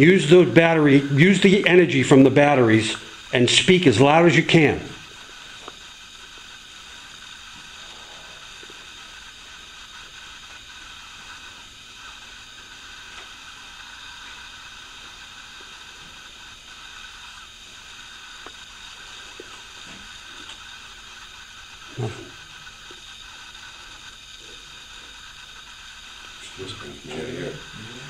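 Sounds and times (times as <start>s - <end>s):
steady recorder hiss: 0.0s - 28.0s.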